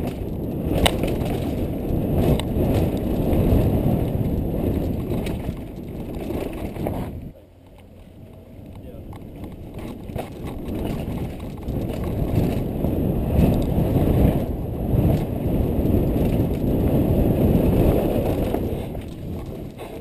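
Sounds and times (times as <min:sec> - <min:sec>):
mountain bike rattling: 0:00.0 - 0:20.0
tyres rumbling over dirt and rock: 0:00.0 - 0:20.0.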